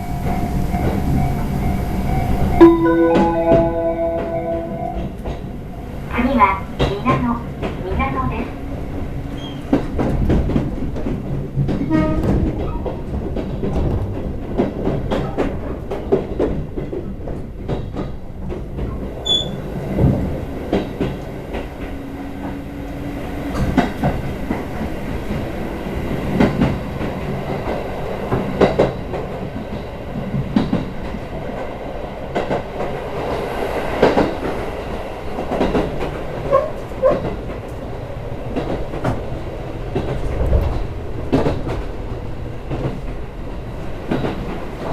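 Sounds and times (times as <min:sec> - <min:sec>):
train interior rumble: 0:00.0 - 0:44.9.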